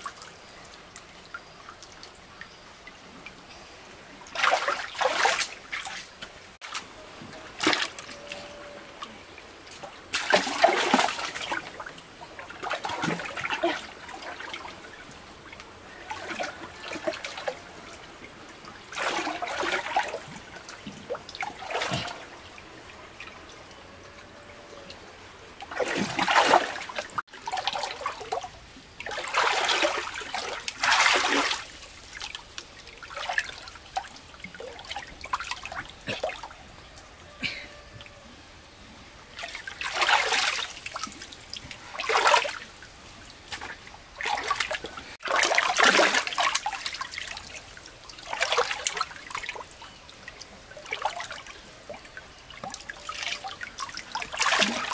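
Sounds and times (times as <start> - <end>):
water splashing and trickling: 0.0 - 54.9.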